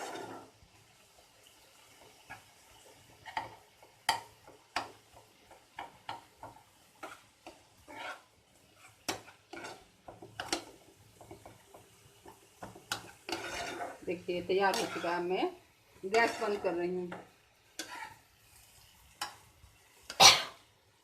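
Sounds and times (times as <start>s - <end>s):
spoon scraping and knocking a pan: 0.0s - 0.6s, 1.9s - 20.6s.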